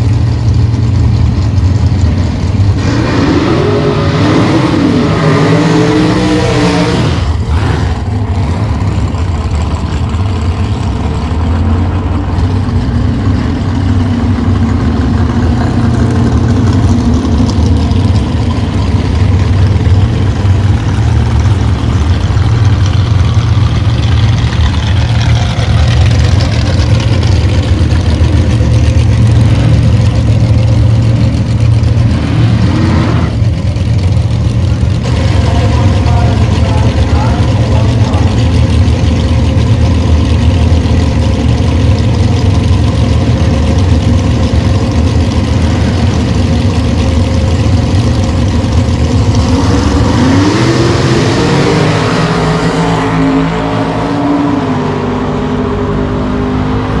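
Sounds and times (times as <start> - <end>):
race car engines idling: 0.0 - 57.0.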